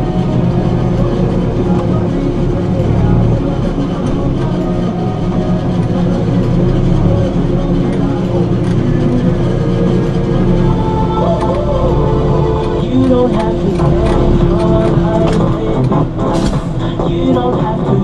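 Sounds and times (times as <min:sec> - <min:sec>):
heavy machine engine running: 0:00.0 - 0:18.0
voices: 0:00.0 - 0:18.0.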